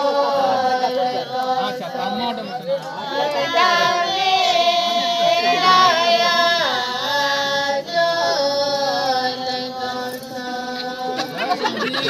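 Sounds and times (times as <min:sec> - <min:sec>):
people talking: 0:00.0 - 0:12.0
voices singing chant-like song: 0:00.0 - 0:12.0.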